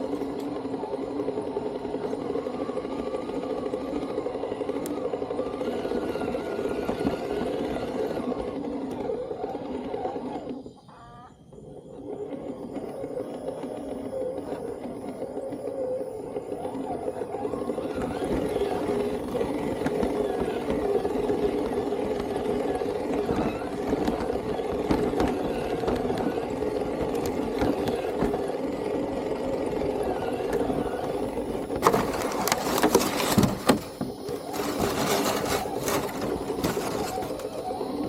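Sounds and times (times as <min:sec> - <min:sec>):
toy truck electric motor whining: 0:00.0 - 0:38.0.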